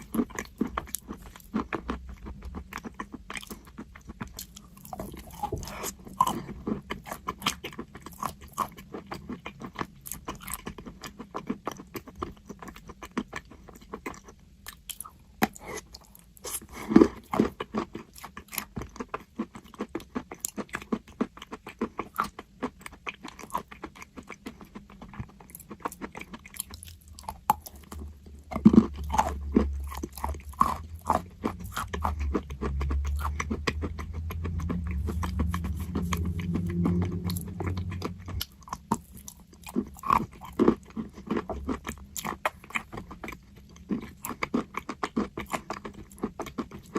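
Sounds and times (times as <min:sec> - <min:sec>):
low steady hum: 0:00.0 - 0:20.8, 0:21.6 - 0:46.9
chalk crunching while chewed: 0:00.0 - 0:46.9.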